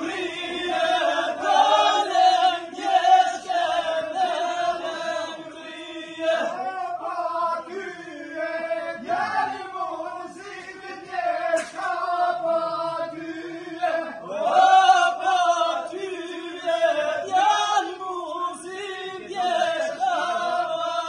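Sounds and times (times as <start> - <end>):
group singing a folk chant: 0.0 - 21.0.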